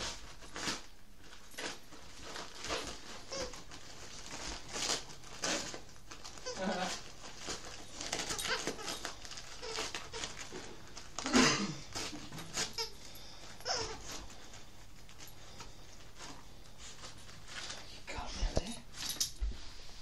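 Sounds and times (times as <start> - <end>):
dog ripping wrapping paper: 0.0 - 18.3.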